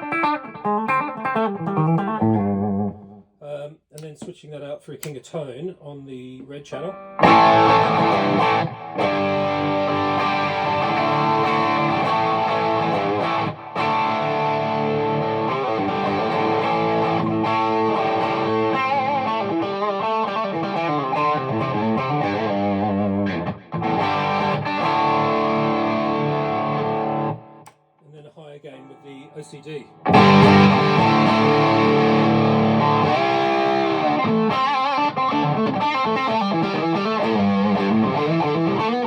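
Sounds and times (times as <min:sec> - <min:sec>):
overdriven electric guitar: 0:00.0 - 0:03.2, 0:06.9 - 0:27.7, 0:29.9 - 0:39.0.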